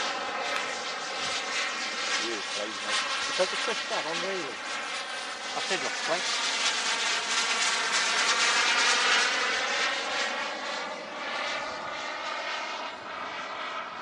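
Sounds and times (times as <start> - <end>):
jet engine high whine: 0.0 - 14.0.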